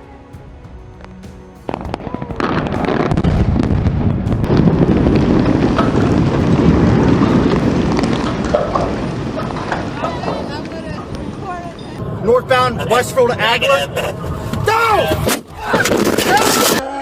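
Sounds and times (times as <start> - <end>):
music: 0.0 - 17.0
fireworks crackling and popping: 1.0 - 16.8.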